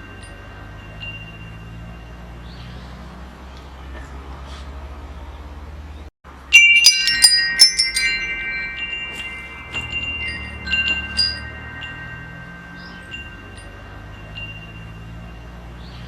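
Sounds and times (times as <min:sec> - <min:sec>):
metal wind chimes ringing: 0:00.0 - 0:03.4, 0:06.3 - 0:16.0.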